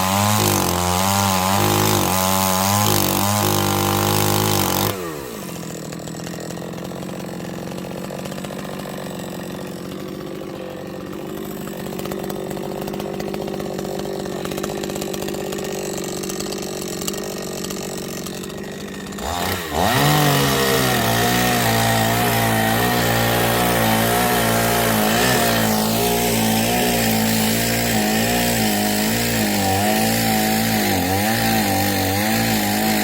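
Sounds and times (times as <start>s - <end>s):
chainsaw engine idling: 0.0s - 33.0s
chainsaw revving: 0.0s - 33.0s.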